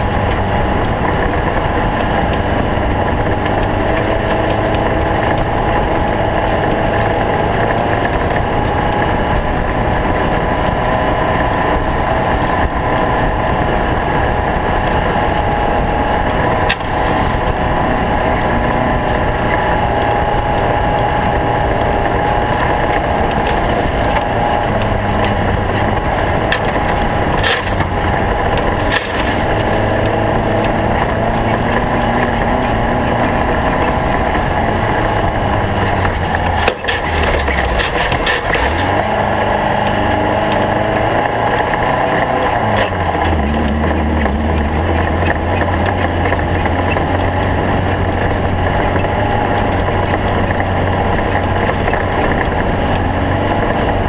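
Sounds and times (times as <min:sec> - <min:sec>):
race car engine running: 0:00.0 - 0:54.0
wind noise: 0:00.0 - 0:54.0.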